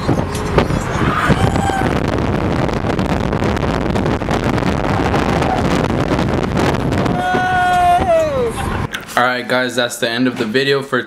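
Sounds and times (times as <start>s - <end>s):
wind rushing over microphone: 0.0s - 9.1s
car road noise: 0.0s - 10.2s.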